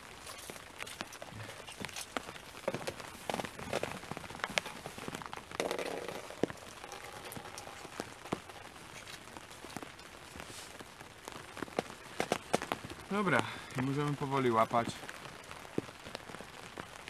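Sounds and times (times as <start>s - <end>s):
rain pattering on fabric canopy: 0.0s - 17.0s.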